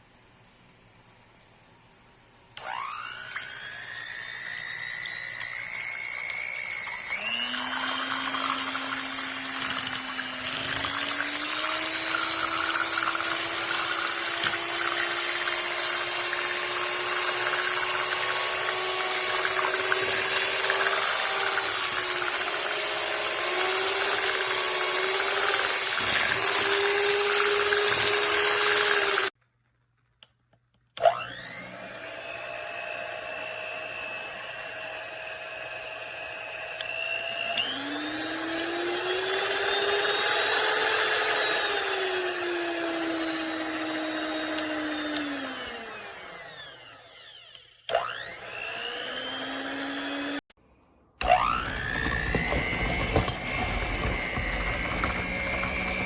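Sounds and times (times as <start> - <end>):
electric hand mixer whine: 2.6 - 29.4, 31.0 - 50.6, 51.2 - 56.0.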